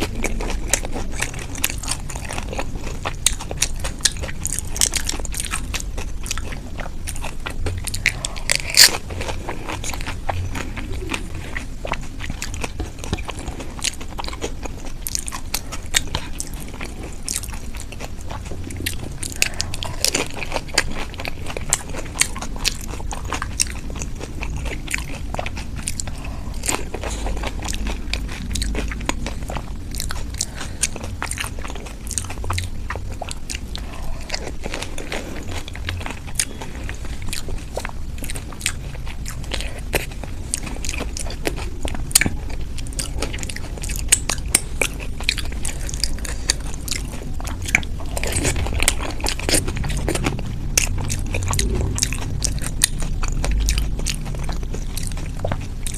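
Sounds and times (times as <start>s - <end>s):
person chewing crisp food: 0.0s - 55.9s.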